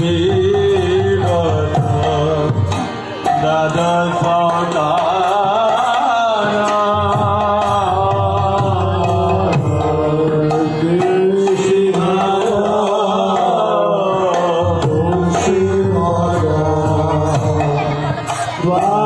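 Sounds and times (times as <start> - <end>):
drum: 0.0 - 19.0
ticking percussion beat: 0.0 - 19.0.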